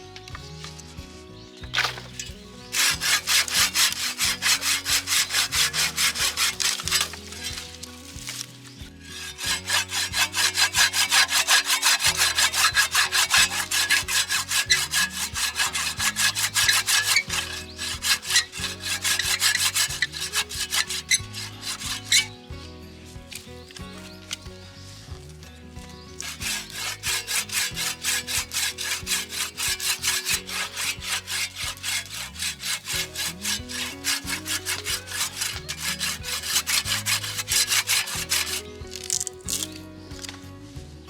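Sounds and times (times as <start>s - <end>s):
hand saw cutting wood: 1.6s - 24.5s, 26.2s - 40.4s.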